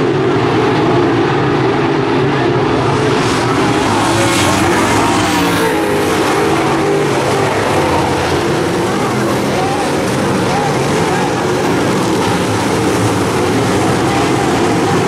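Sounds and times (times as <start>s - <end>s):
race car engines roaring: 0.0s - 15.0s.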